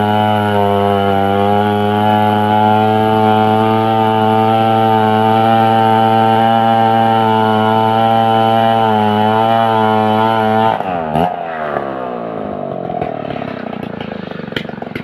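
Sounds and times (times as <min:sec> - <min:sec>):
chainsaw engine rattling: 0:00.0 - 0:15.0.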